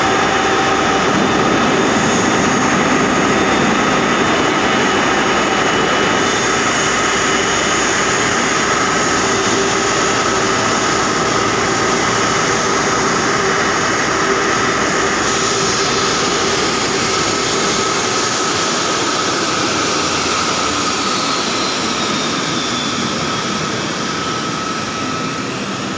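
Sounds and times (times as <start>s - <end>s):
jet turbine whine: 0.0s - 25.9s.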